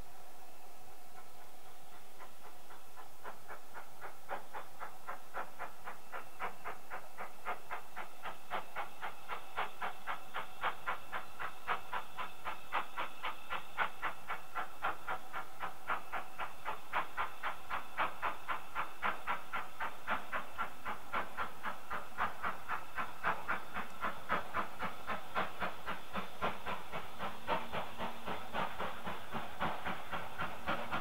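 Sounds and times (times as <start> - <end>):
steam locomotive exhaust beats: 0.0 - 31.0.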